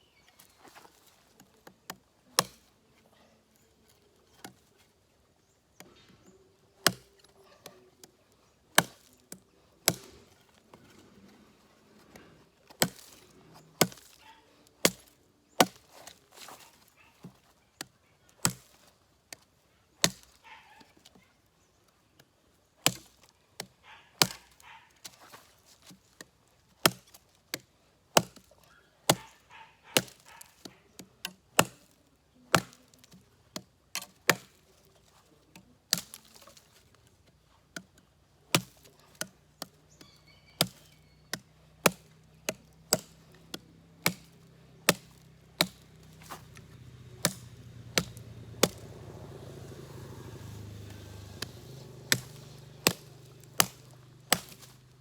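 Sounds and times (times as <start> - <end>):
knife chopping into dry wood: 0.4 - 2.7, 4.3 - 4.8, 5.8 - 8.1, 8.7 - 11.4, 12.0 - 20.4, 22.8 - 55.0.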